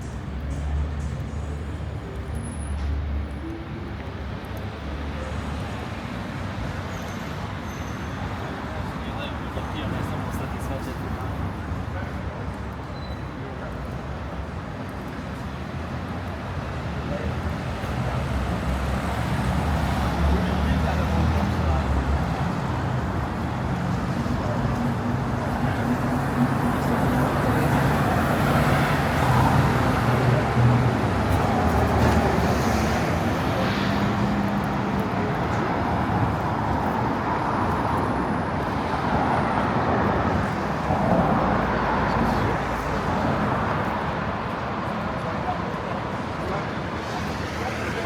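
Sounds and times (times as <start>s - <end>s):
vehicles passing on street: 0.0s - 48.0s.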